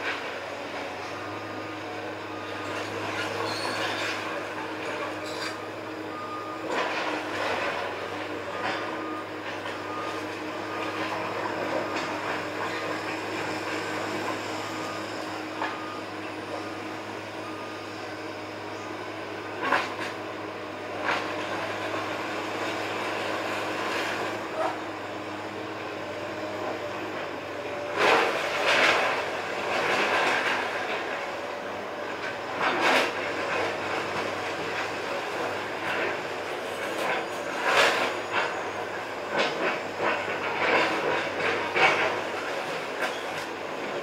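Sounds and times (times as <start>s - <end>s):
excavator running: 0.0s - 44.0s.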